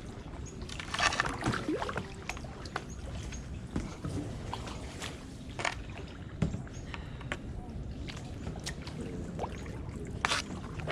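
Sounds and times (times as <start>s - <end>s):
paddle dipping and dripping: 0.0s - 10.9s.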